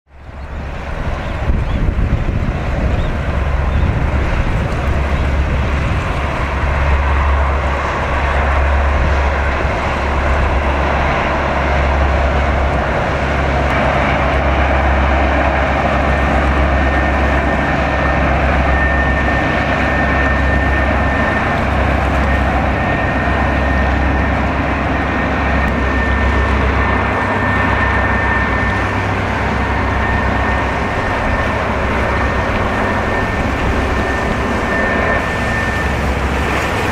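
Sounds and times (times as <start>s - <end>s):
rushing wake water: 0.1s - 36.9s
ship engine drone: 0.1s - 36.9s
faint high whine: 2.8s - 36.9s.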